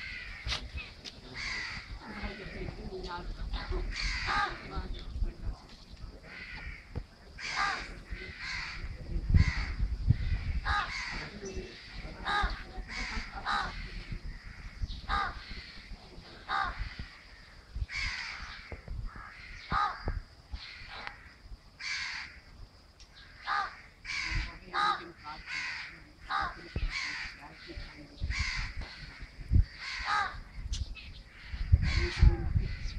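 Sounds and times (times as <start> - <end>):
crows cawing: 0.0 - 3.0, 3.6 - 4.9, 6.2 - 22.6, 23.2 - 30.7, 31.3 - 32.9.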